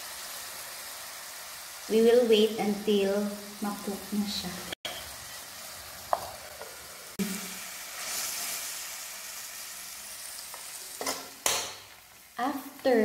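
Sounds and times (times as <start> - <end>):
shrimp sizzling in a wok: 0.0 - 13.0.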